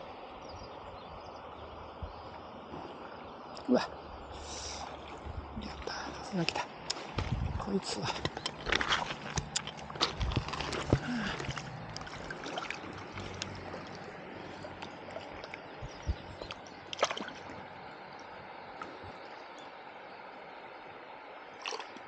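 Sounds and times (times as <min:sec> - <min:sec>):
river flowing: 0:00.0 - 0:22.0
water splashing: 0:02.3 - 0:19.5, 0:21.5 - 0:22.0.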